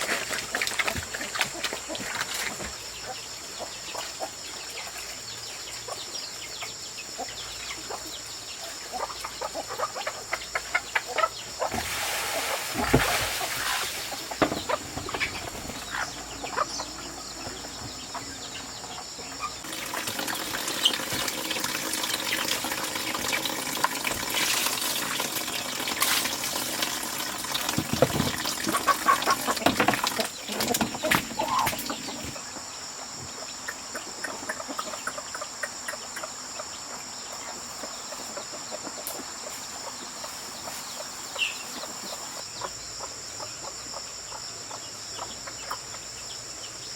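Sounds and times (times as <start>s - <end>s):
chickens clucking: 0.1s - 46.2s.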